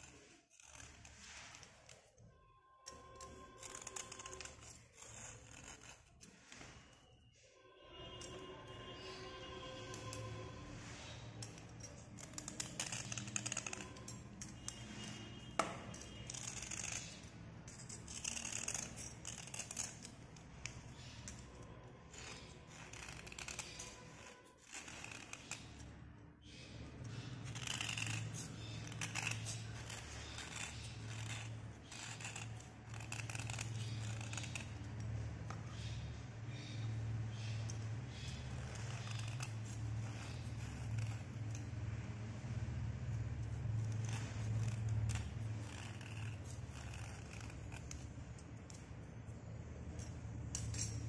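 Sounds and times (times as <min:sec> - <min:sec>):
knife blade scraping slate: 0:00.0 - 0:02.2, 0:02.8 - 0:07.5, 0:08.2 - 0:51.0.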